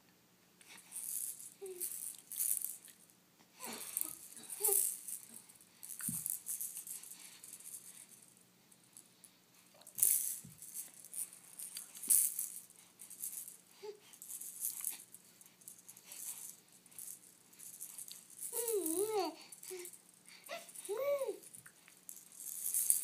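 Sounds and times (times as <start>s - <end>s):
rattle shaken: 0.6s - 23.0s.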